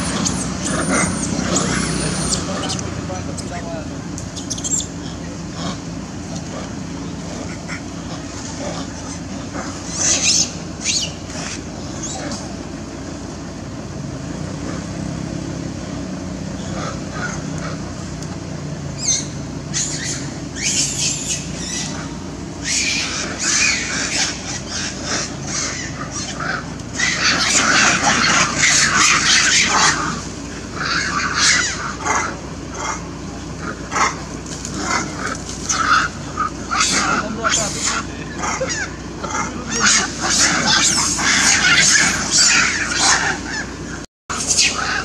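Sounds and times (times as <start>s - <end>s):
macaques screaming: 0.0s - 3.6s, 7.3s - 12.6s, 16.6s - 17.9s, 18.9s - 45.0s
steady low hum: 0.0s - 45.0s.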